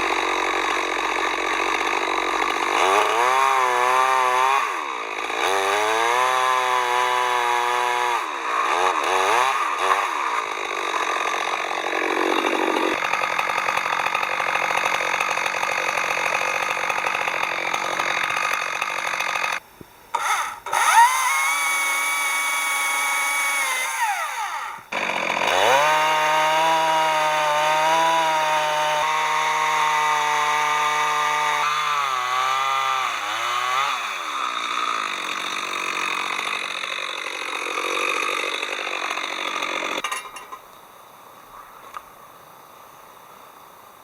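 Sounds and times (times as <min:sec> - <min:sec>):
chainsaw running: 0:00.0 - 0:40.5.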